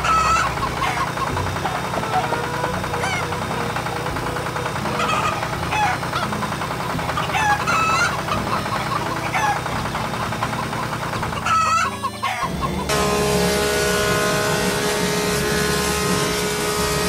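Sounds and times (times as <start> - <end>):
chickens clucking: 0.0 - 17.0
low engine rumble: 0.0 - 17.0.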